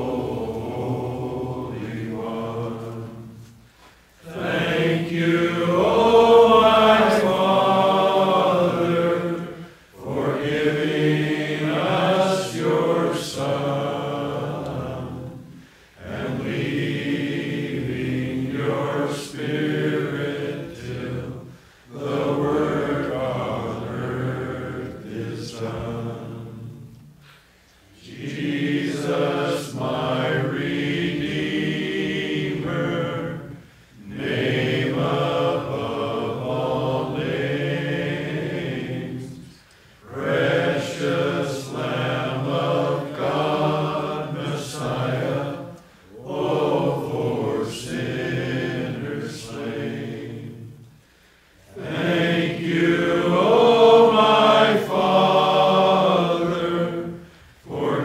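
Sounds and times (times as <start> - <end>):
choir singing: 0.0 - 3.6, 4.2 - 27.2, 27.8 - 51.0, 51.6 - 58.0.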